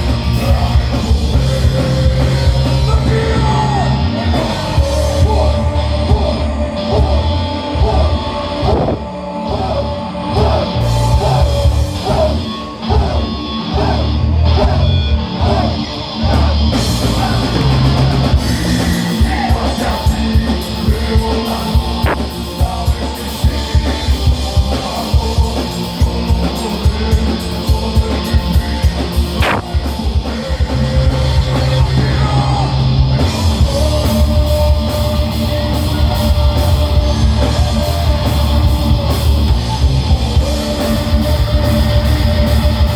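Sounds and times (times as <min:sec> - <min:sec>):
fast drumming: 0:00.0 - 0:08.1, 0:16.3 - 0:42.9
heavy metal band playing live: 0:00.0 - 0:42.9
wavering guitar lead: 0:00.0 - 0:42.9.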